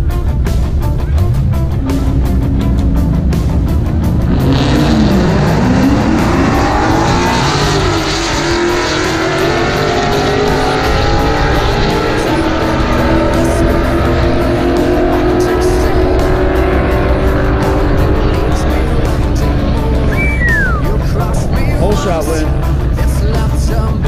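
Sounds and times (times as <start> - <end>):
racing car engine at full throttle: 0.0 - 24.0.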